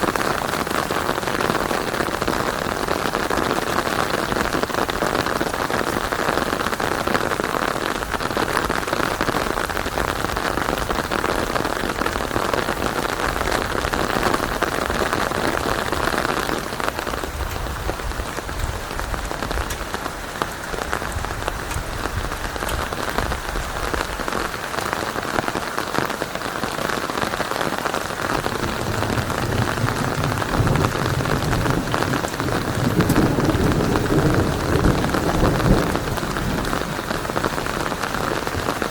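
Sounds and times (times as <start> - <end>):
thunder rumbling: 0.0 - 25.8, 27.2 - 38.9
steady rain falling: 0.0 - 38.9.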